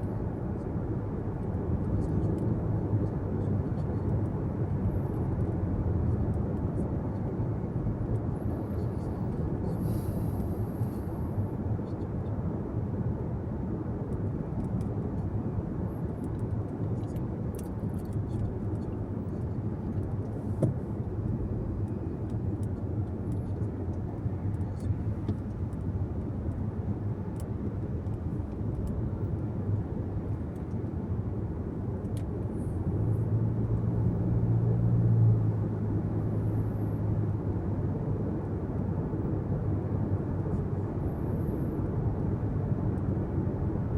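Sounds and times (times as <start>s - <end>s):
tyre and engine rumble in car: 0.0s - 43.9s.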